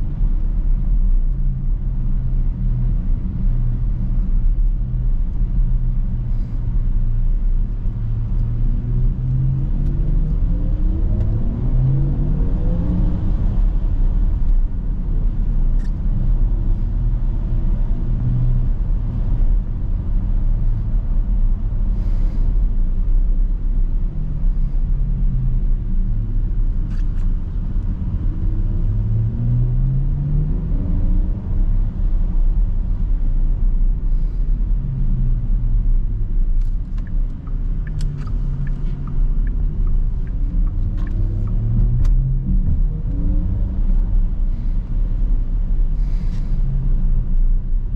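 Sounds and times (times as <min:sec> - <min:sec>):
road and tyre rumble: 0:00.0 - 0:47.9.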